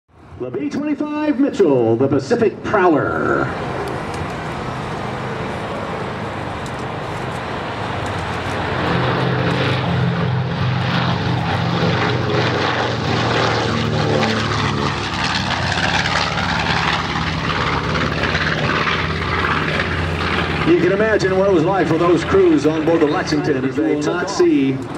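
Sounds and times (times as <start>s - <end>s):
aircraft radial engines roaring: 0.1s - 24.9s.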